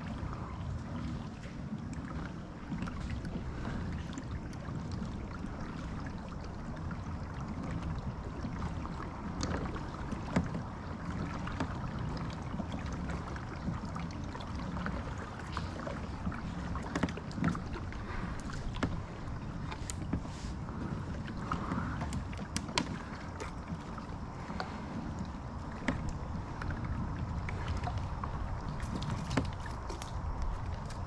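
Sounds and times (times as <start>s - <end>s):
water washing along hull: 0.0s - 31.0s.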